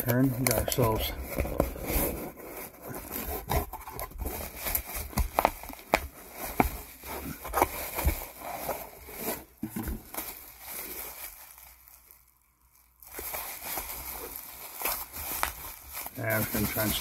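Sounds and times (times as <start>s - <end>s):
packing material crinkling and tearing: 0.0s - 17.0s.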